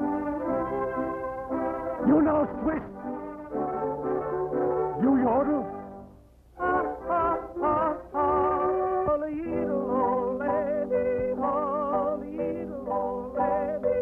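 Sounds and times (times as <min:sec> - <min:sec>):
lively cartoon music: 0:00.0 - 0:14.0.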